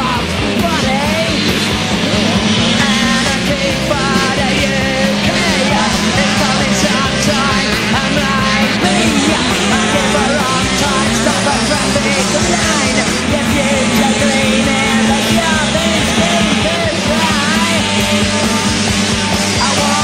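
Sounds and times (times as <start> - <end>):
punk rock music with vocals: 0.0 - 20.0.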